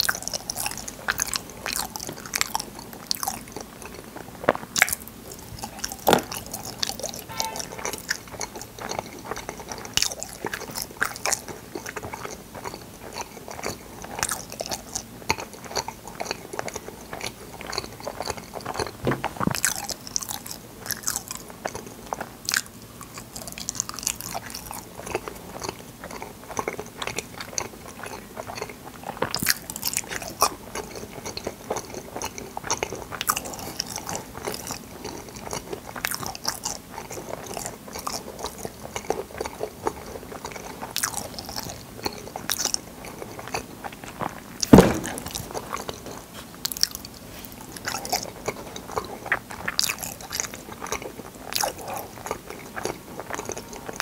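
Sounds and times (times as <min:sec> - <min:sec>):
chewing soft jelly: 0:00.0 - 0:54.0.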